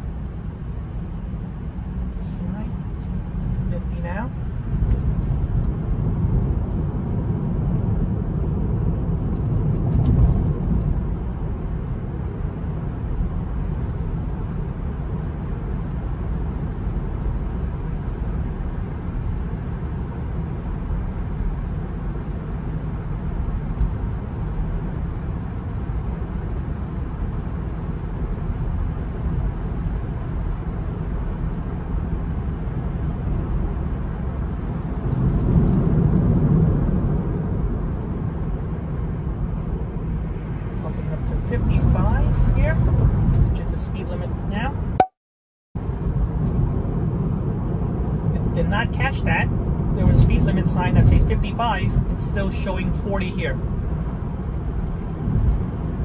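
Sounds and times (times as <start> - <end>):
tyre and wind road rumble: 0.0 - 45.0, 45.8 - 56.0.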